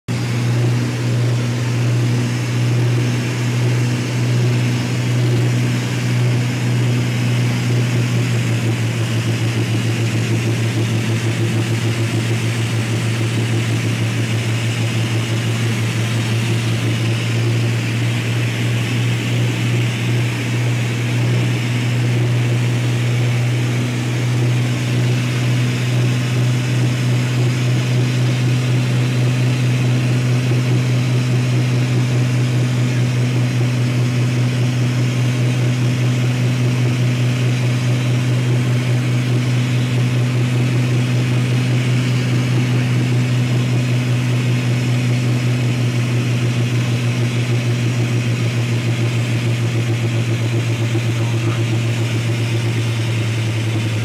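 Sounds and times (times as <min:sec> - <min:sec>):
aircraft engines droning in cabin: 0:00.1 - 0:54.0.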